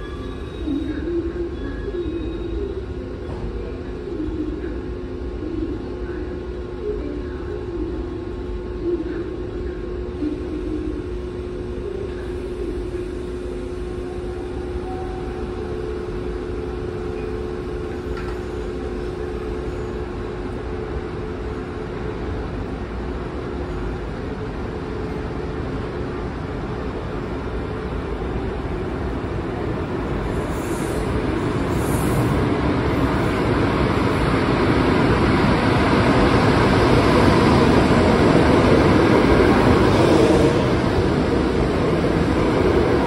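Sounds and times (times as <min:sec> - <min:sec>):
train hum and rumble: 0:00.0 - 0:43.0.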